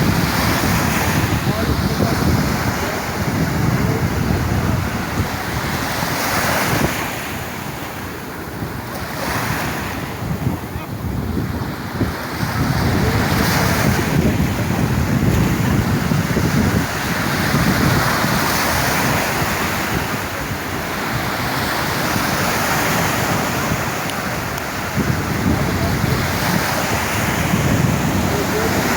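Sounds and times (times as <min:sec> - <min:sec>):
sea waves washing ashore: 0:00.0 - 0:28.9
wind on microphone: 0:00.0 - 0:28.9.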